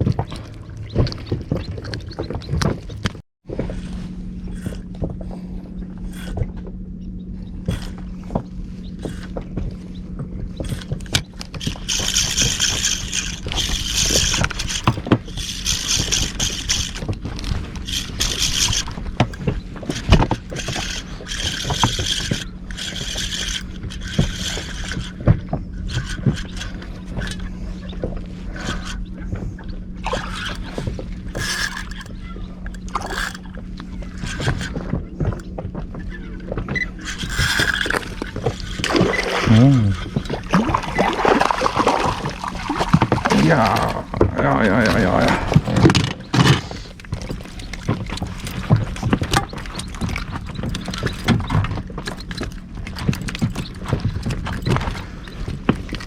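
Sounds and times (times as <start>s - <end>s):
outboard motor humming: 0.0s - 56.0s
water splashing against hull: 0.0s - 56.0s.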